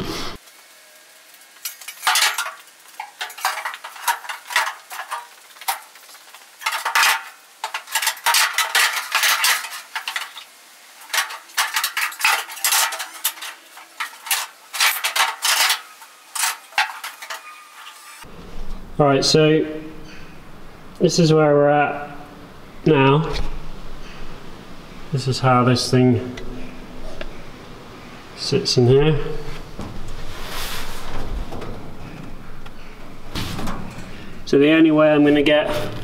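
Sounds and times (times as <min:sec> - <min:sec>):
metal tubes clanking on sheet metal: 0:01.6 - 0:36.0.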